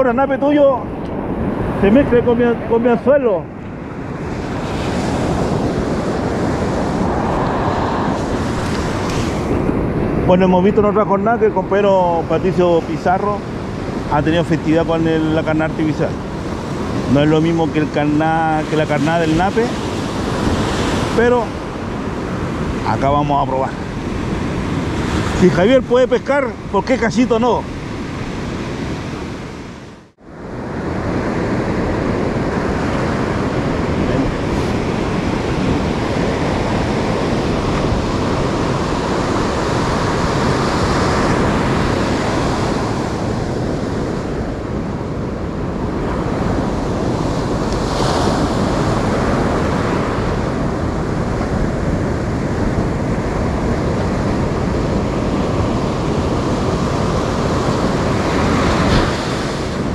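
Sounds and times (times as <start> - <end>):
surf breaking on a beach: 0.0 - 59.9
wind rumbling on microphone: 0.0 - 59.9.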